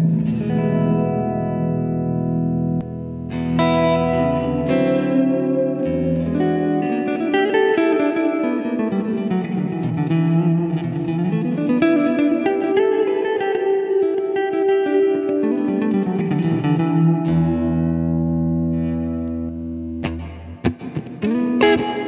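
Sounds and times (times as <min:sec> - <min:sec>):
electric guitar with reverb: 0:00.0 - 0:22.0.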